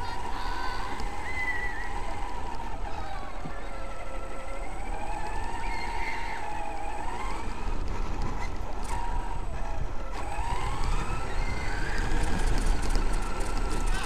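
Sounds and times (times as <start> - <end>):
electric motor whining: 0.0 - 14.0
tyres rumbling on gravel: 0.0 - 14.0.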